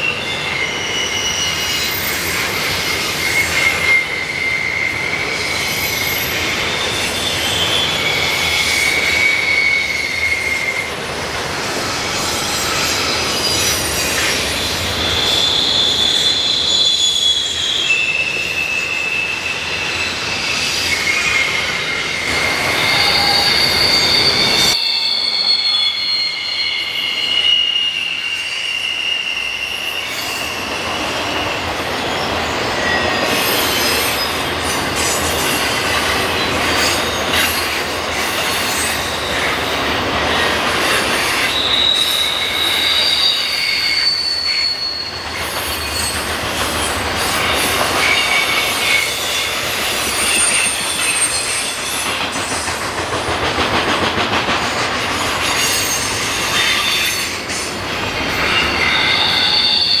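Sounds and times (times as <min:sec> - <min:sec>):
high wheel squeal: 0:00.0 - 0:52.8, 0:55.0 - 1:00.0
steel wheels rattling on rails: 0:00.0 - 1:00.0.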